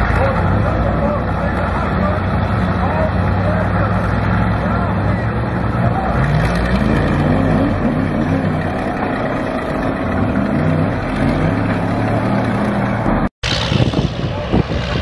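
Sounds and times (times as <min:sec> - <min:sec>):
bulldozer engine working hard: 0:00.0 - 0:15.0.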